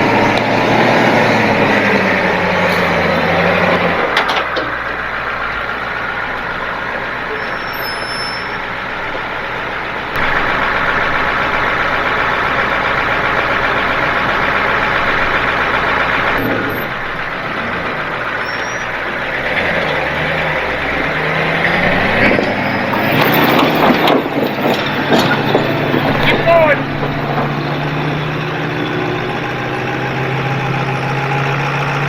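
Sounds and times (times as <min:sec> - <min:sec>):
truck engine running under load: 0:00.0 - 0:32.0.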